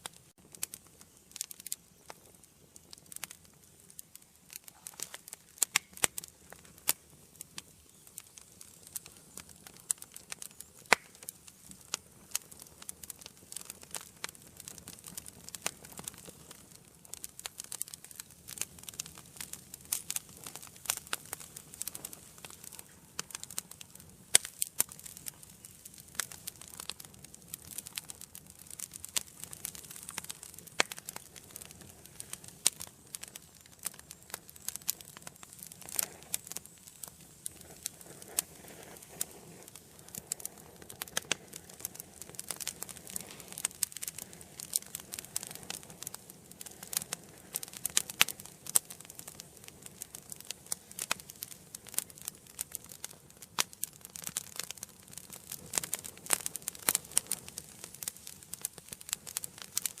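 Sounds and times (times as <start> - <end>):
hiss of flames: 0.0 - 60.0
wood fire crackling and popping: 0.0 - 60.0.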